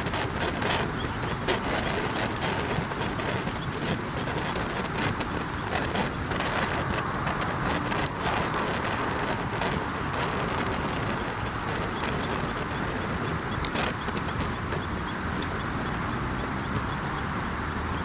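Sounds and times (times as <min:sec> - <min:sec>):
burning wood crackling and popping: 0:00.0 - 0:18.0
campfire hissing: 0:00.0 - 0:18.0.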